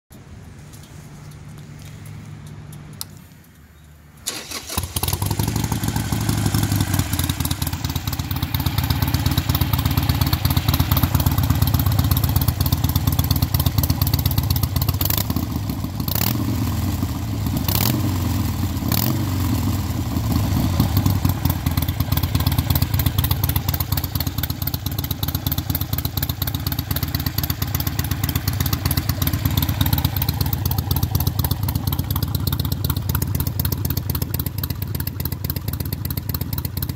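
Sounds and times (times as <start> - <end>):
motorcycle engine starting and idling: 2.3 - 36.9.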